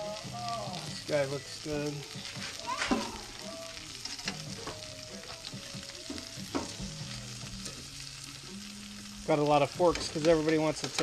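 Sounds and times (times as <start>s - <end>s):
fish sizzling in butter: 0.0s - 11.0s.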